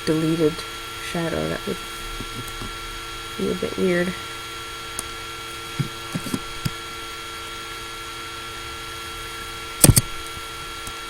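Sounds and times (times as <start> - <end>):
laptop fan whine: 0.0 - 11.0.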